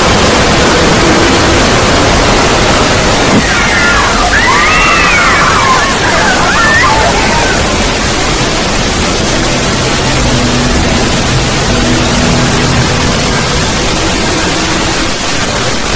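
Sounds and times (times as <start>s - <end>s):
loud static hiss: 0.0s - 15.9s.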